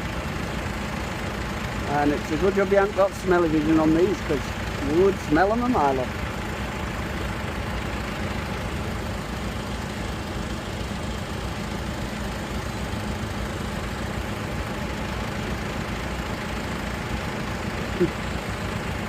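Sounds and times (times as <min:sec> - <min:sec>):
tractor engines droning: 0:00.0 - 0:19.0.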